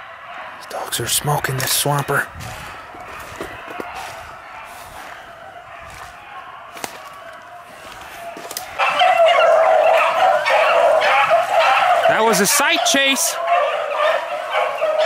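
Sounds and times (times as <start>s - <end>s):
pack of beagles baying: 0.0s - 15.0s.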